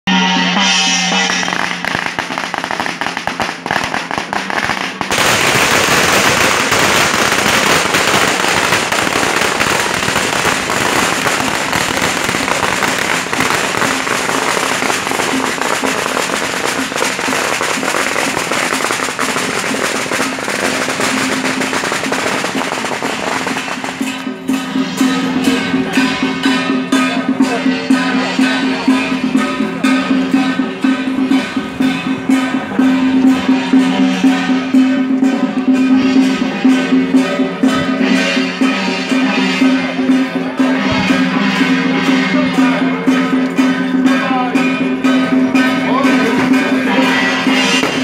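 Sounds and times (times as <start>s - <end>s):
firecrackers crackling: 0.3s - 48.0s.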